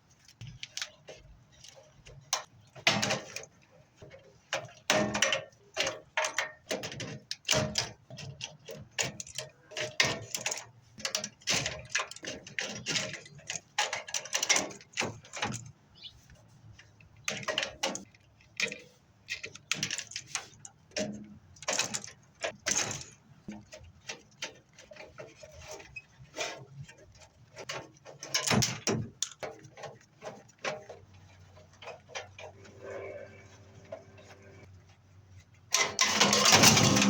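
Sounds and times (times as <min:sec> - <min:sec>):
metal tools clanking and rattling: 0:00.8 - 0:15.8, 0:17.2 - 0:34.7, 0:35.7 - 0:37.0.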